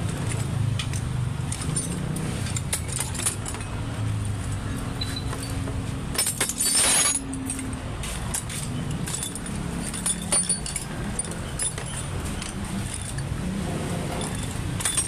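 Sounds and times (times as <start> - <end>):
metal tools clinking: 0.0 - 15.0.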